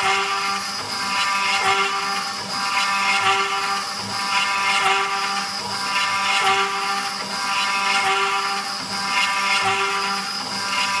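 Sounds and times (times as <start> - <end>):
bit cutting wood: 0.0 - 11.0
brief motor tone: 0.0 - 11.0
router spindle whining: 0.0 - 11.0.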